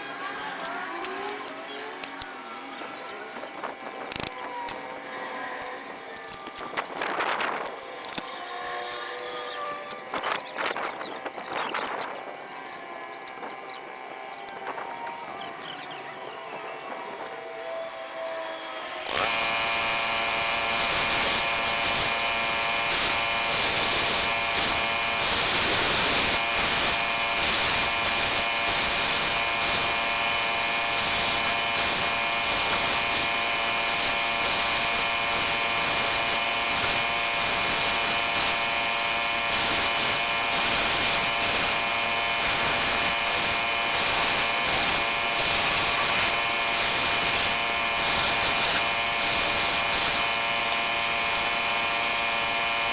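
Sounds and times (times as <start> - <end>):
small electric motor whining: 0.0 - 52.9.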